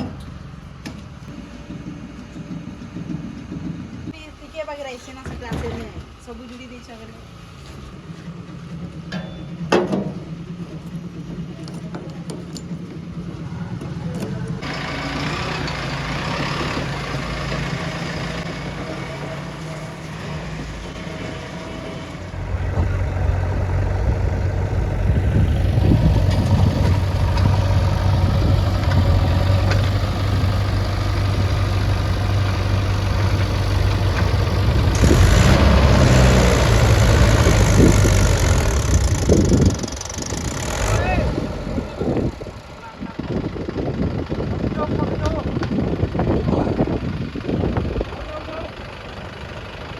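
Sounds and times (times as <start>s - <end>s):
heavy machinery diesel engine: 0.0s - 4.5s, 5.2s - 49.9s.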